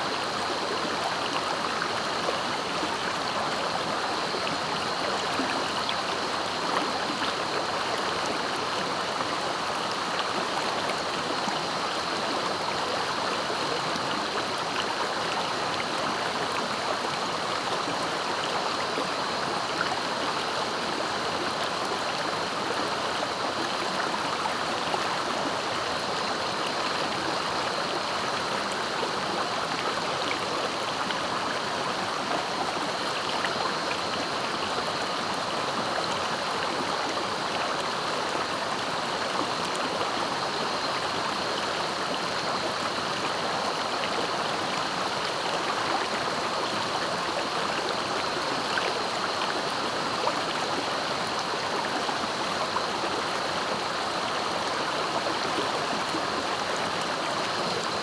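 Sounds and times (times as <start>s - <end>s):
river flowing over rocks: 0.1s - 58.0s.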